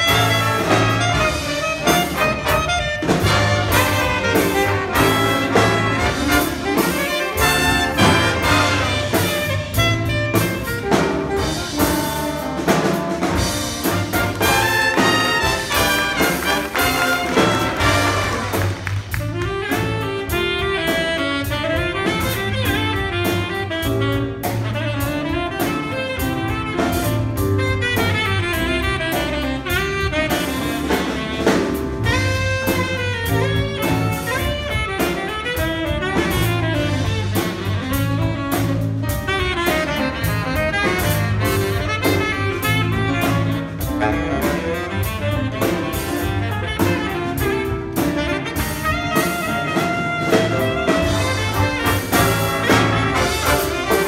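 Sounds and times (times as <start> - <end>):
bass line: 0.0 - 54.0
drum kit: 0.0 - 54.0
saxophones and brass: 0.0 - 54.0.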